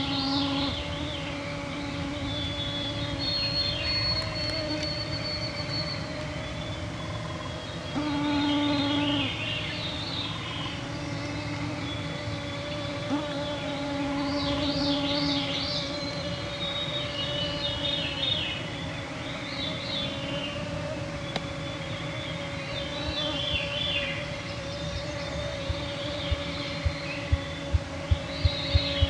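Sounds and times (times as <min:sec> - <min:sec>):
mosquitoes whining: 0:00.0 - 0:29.0
songbirds singing: 0:00.0 - 0:29.0.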